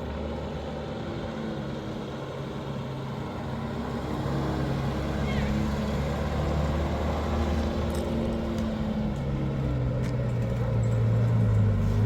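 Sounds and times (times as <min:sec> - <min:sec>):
car engine humming while driving: 0:00.0 - 0:12.0.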